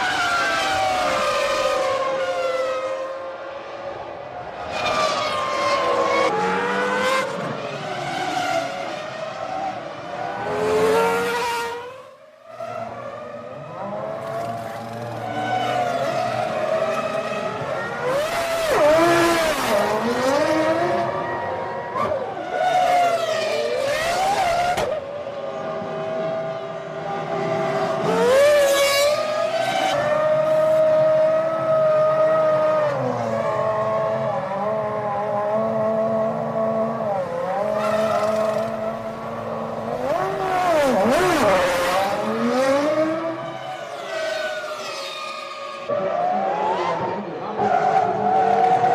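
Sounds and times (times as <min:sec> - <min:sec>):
racing car engines at high revs: 0:00.0 - 0:48.9.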